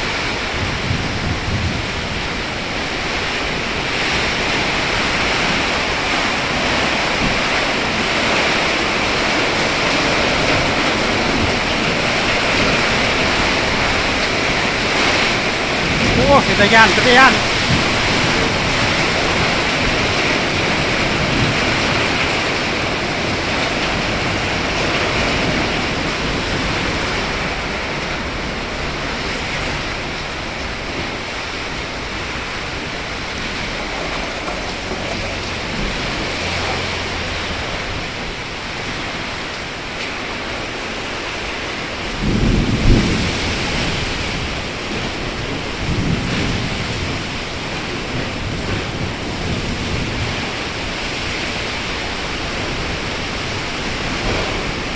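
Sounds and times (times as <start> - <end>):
heavy rain pouring: 0.0 - 54.9
wind: 0.0 - 54.9.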